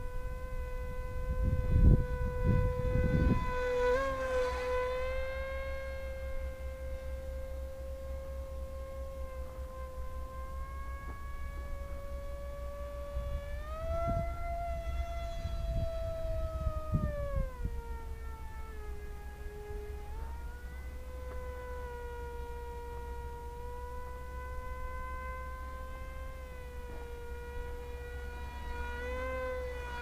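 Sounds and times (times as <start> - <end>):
electric motor and propeller whining: 0.0 - 30.0.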